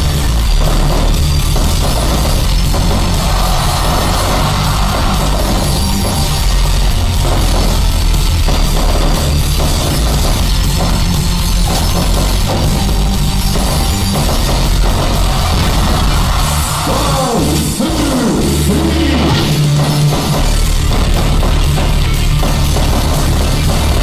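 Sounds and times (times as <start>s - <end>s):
loud rock music: 0.0s - 24.0s.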